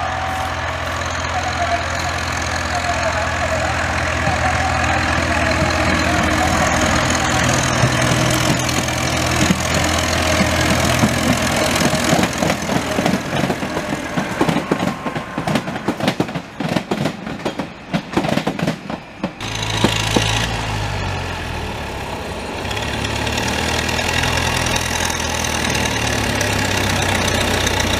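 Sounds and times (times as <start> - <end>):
train wheels clattering over track: 0.0 - 20.9, 22.6 - 27.9
diesel locomotive engine running: 0.0 - 27.9.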